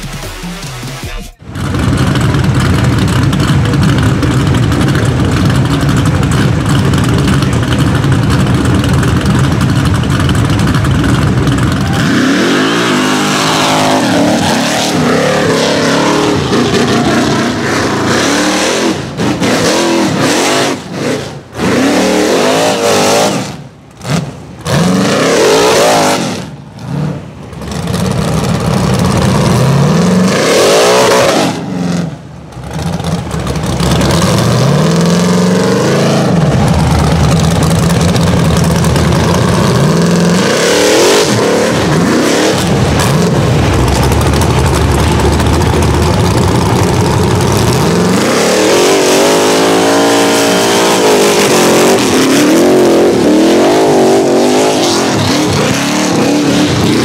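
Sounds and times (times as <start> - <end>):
buggy engine revving hard: 1.4 - 57.0.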